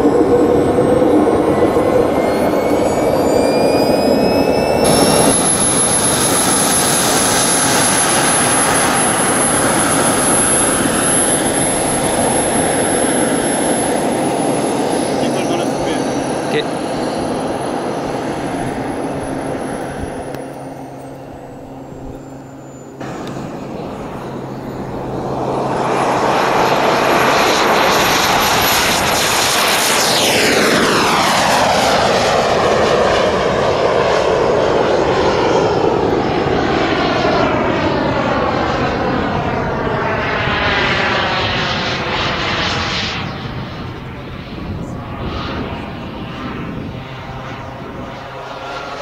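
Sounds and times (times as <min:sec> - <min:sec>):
jet rushing past: 0:00.0 - 0:49.0
model jet turbine whine: 0:00.0 - 0:49.0.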